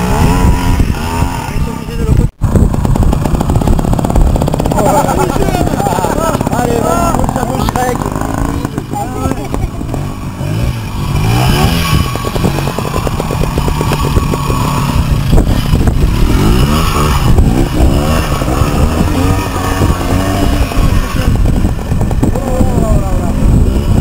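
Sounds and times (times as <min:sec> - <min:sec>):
two-stroke motorcycle engine revving: 0:00.0 - 0:24.0.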